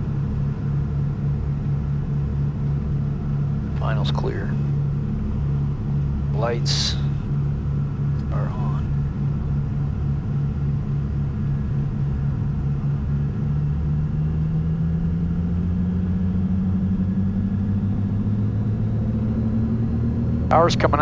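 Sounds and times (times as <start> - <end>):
twin piston aircraft engines: 0.0 - 21.0.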